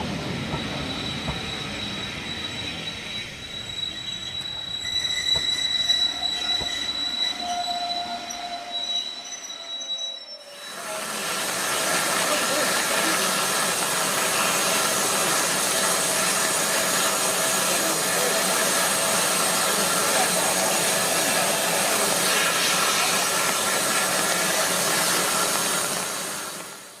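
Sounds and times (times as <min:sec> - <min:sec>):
train rushing: 0:00.0 - 0:27.0.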